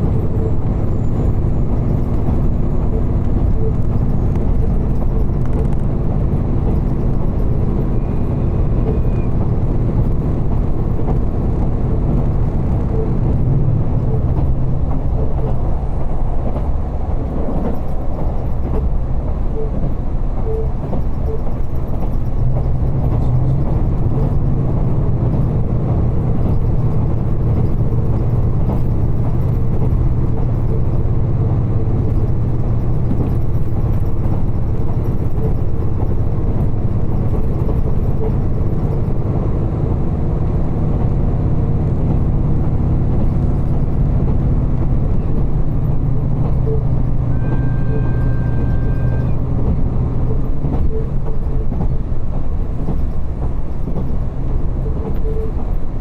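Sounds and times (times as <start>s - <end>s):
railcar engine drone: 0.0s - 56.0s
wheels rumbling on rail: 0.0s - 56.0s.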